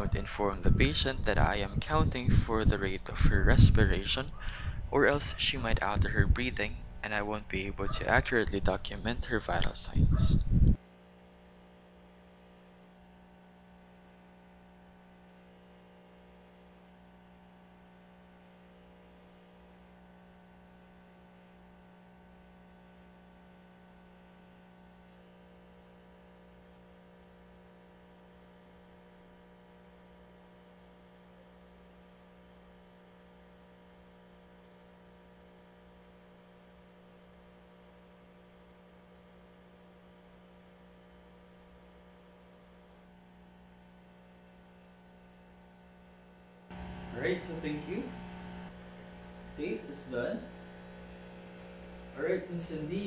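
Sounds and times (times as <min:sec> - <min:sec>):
faint electrical hum: 0:00.0 - 0:53.0.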